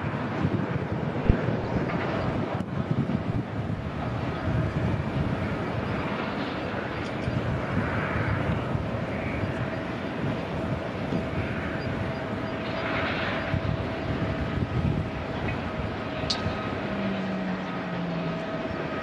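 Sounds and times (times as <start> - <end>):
jet airliner taking off: 0.0 - 19.0.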